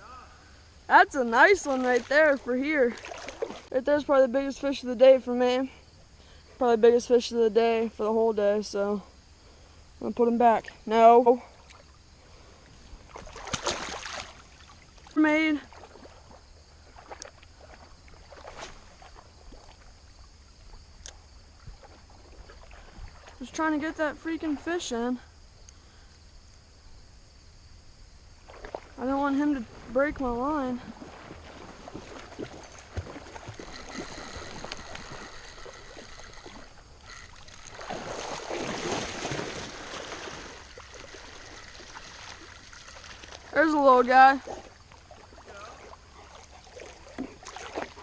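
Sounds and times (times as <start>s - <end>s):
faint creek water: 0.0s - 48.0s
running stream: 0.0s - 48.0s.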